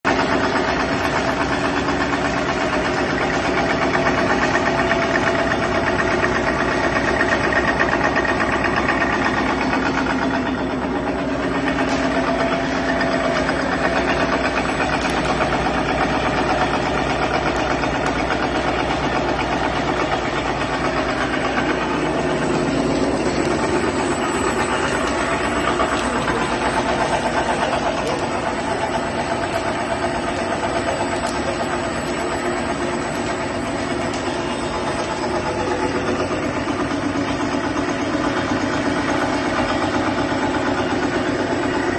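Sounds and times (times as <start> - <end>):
milling machine droning: 0.1 - 41.9.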